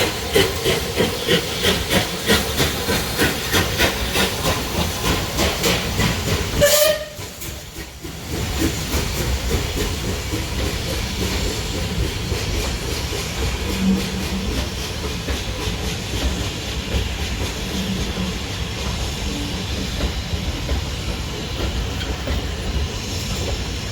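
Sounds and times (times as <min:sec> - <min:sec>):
steam hiss: 0:00.0 - 0:23.9
steam locomotive exhaust beats: 0:00.0 - 0:23.9
train rumbling past: 0:00.0 - 0:23.9
train wheel clicks: 0:00.0 - 0:23.9.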